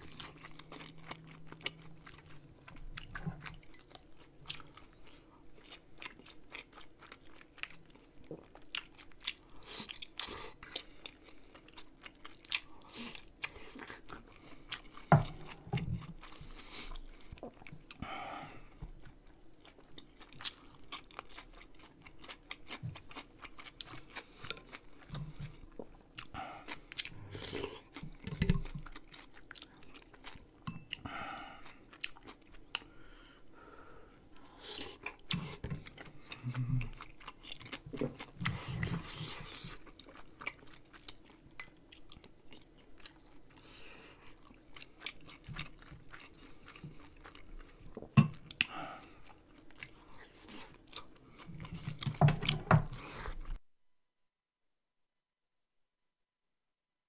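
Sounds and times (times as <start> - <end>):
person chewing food: 0.0 - 53.6.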